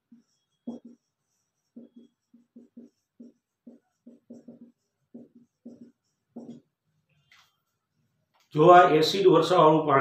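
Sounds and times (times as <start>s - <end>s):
marker writing on whiteboard: 0.0s - 8.7s.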